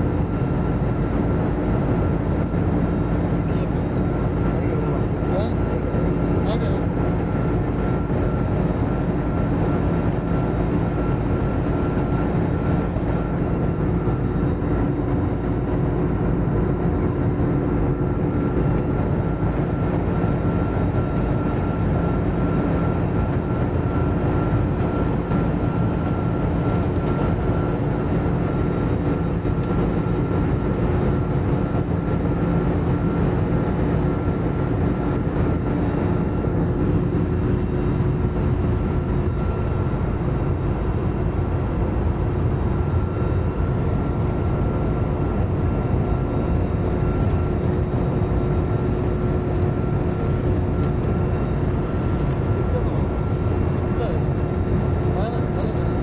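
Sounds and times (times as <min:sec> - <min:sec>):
jet engines and airflow rush: 0:00.0 - 0:56.0
low hum: 0:00.0 - 0:56.0.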